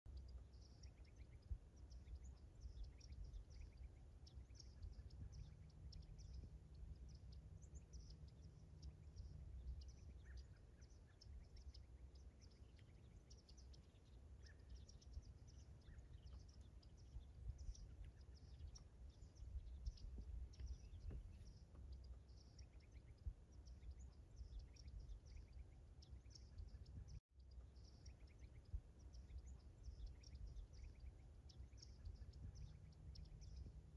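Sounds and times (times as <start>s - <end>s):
small birds chirping: 0.0s - 33.9s
low wind rumble: 0.1s - 33.9s.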